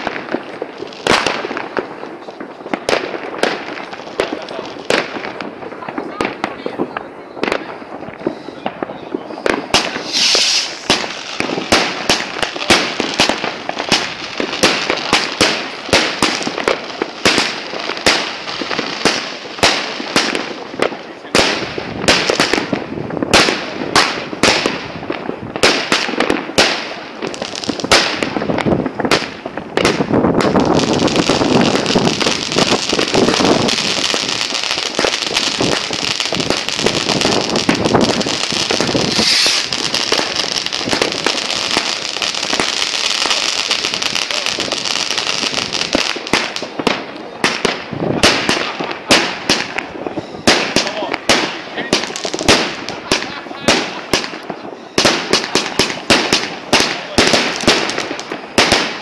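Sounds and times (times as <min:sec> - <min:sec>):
fireworks bangs and cracks: 0:00.0 - 0:59.0
fireworks crackling: 0:00.0 - 0:59.0.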